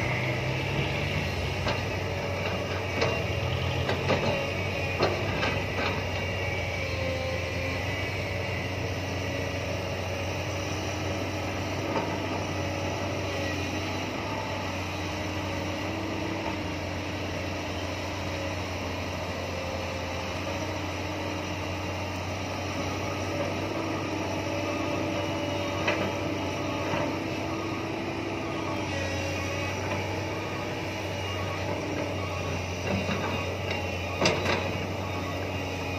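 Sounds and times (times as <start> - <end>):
excavator diesel engine running: 0.0 - 35.9
hydraulic whine: 0.0 - 35.9.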